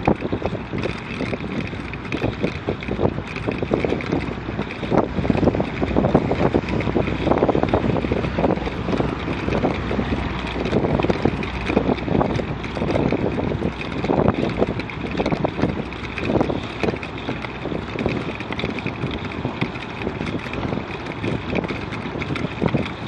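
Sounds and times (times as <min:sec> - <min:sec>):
bicycle rattling on gravel: 0:00.0 - 0:23.0
wind buffeting microphone: 0:00.0 - 0:23.0.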